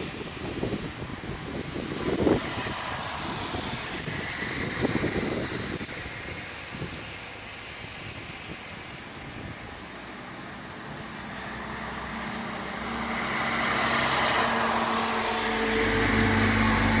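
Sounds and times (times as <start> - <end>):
car approaching on wet road: 0.0 - 17.0
steady rain: 0.0 - 17.0.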